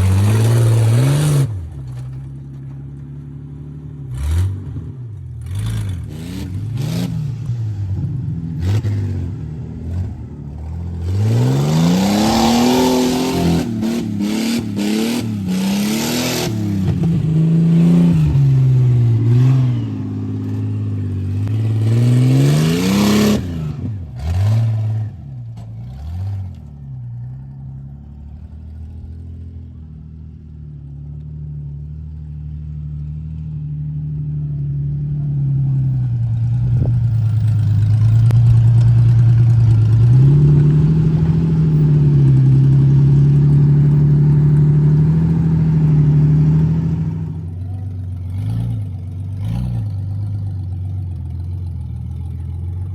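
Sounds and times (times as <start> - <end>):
car engine revving: 0.0 - 2.6, 4.0 - 31.2, 34.4 - 52.9.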